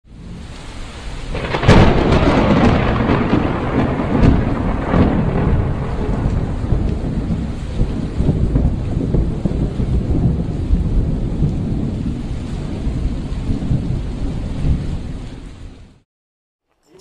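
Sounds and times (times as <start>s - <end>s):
steady rain: 0.0s - 16.0s
rolling thunder: 1.2s - 16.0s
sharp thunderclap: 1.3s - 15.8s.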